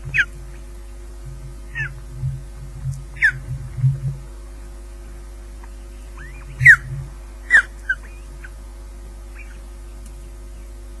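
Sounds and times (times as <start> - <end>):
ospreys chirping: 0.0 - 4.4, 5.6 - 8.6, 9.2 - 11.0
electrical hum: 0.0 - 11.0.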